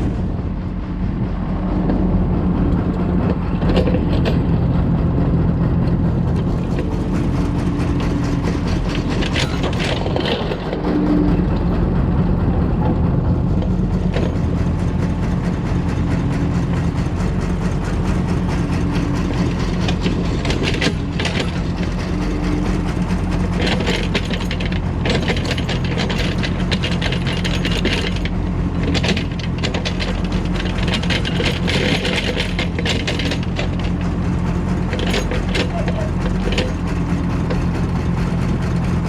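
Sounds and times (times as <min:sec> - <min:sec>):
diesel engine running: 0:00.0 - 0:39.0
excavator bucket rattling and scraping: 0:00.0 - 0:39.0.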